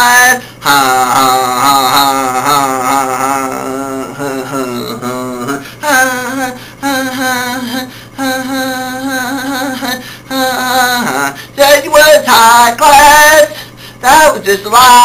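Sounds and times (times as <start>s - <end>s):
person singing wordless tune: 0.0s - 15.0s.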